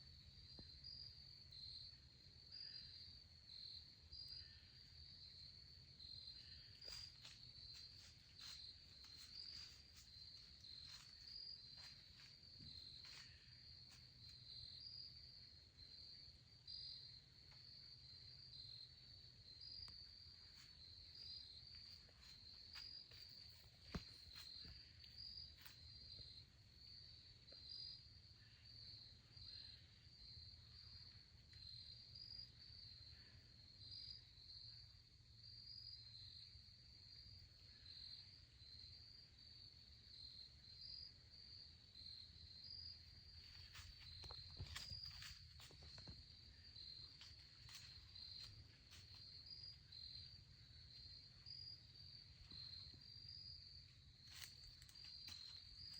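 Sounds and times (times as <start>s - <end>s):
insects trilling: 0.6s - 55.9s.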